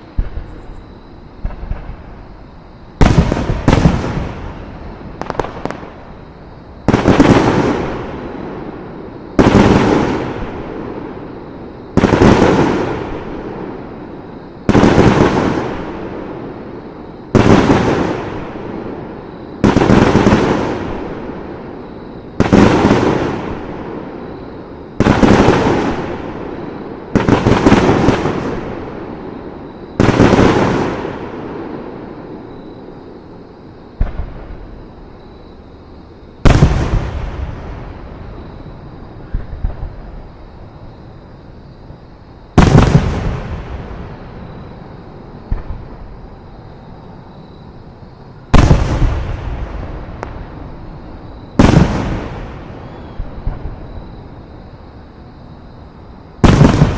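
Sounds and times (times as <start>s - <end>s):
fireworks bangs with rumble and crackle: 0.0s - 32.8s, 33.9s - 35.3s, 36.4s - 41.2s, 42.5s - 46.6s, 48.2s - 54.5s, 55.8s - 56.9s.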